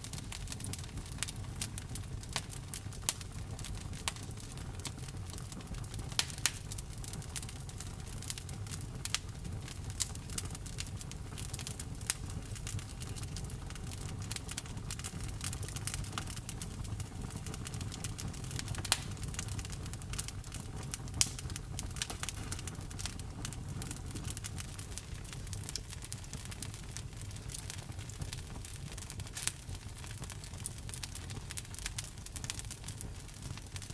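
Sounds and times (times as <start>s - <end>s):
fire pops: 0.0s - 33.9s
wood fire crackling: 0.0s - 33.9s.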